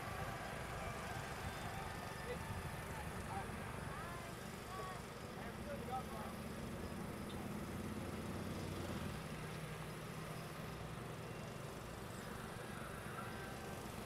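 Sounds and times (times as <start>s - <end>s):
distant engine running: 0.0s - 14.0s.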